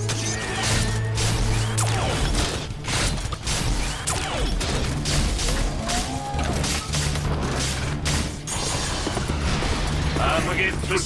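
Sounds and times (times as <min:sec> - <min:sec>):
mechanical clanks and impacts: 0:00.0 - 0:10.2
dramatic music with bass line: 0:00.0 - 0:11.0.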